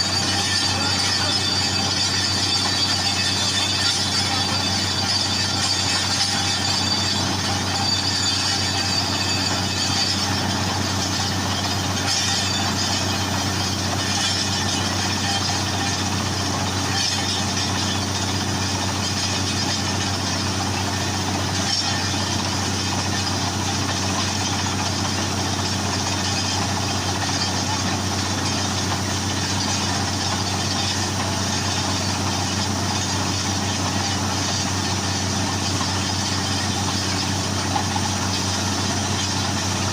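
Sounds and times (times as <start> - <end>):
drilling machine engine hum: 0.0 - 39.9.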